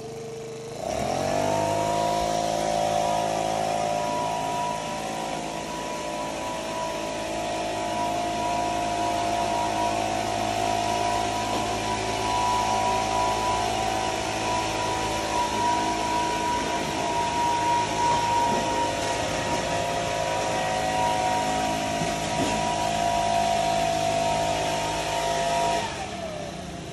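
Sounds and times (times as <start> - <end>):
blower whining: 0.0 - 26.9.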